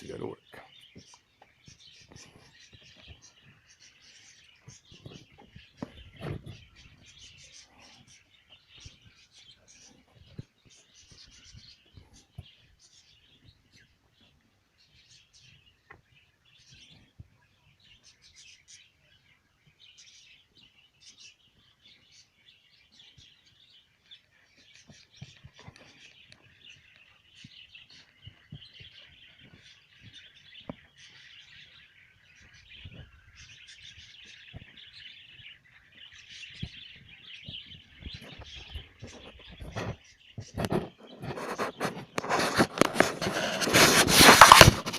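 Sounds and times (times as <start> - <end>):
small birds chirping and twittering: 0.0 - 44.9.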